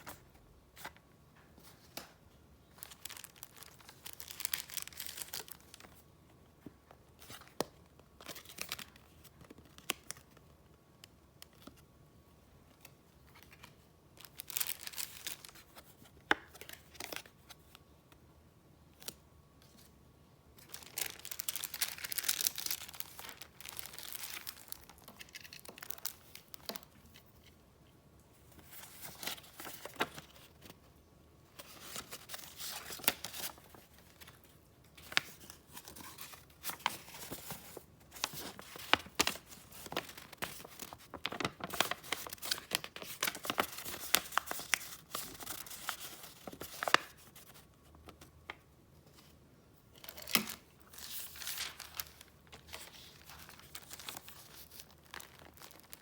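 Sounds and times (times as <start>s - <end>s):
paper crinkling and rustling: 0.0s - 11.9s, 12.7s - 17.8s, 20.6s - 27.6s, 28.4s - 30.9s, 31.5s - 56.0s.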